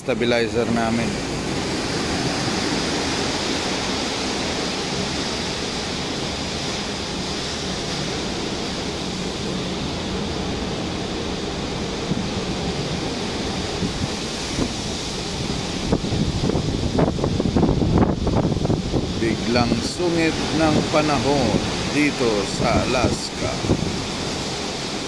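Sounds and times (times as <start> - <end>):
rough sea breaking: 0.0 - 25.0
strong wind rushing: 0.0 - 25.0.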